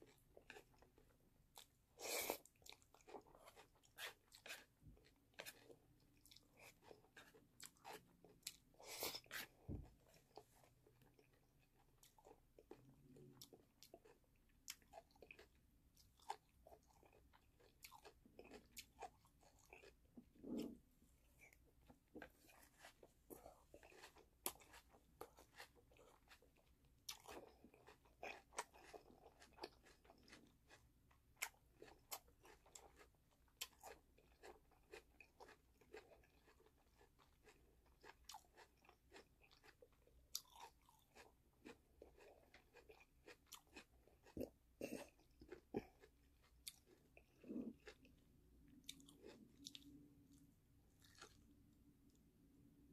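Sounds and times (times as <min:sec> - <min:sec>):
mouth chewing noodles: 0:00.0 - 0:52.2.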